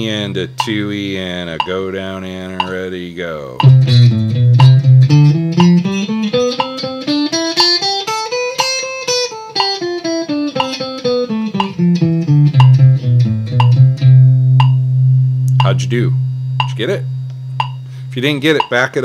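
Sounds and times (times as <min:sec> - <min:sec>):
electric guitar playing a scale: 0:00.0 - 0:19.0.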